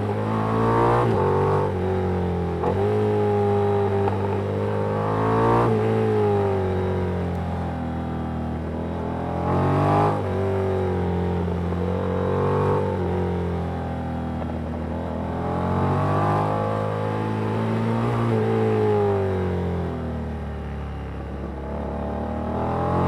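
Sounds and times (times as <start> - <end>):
motorcycle engine revving: 0.0 - 20.1, 20.9 - 23.0.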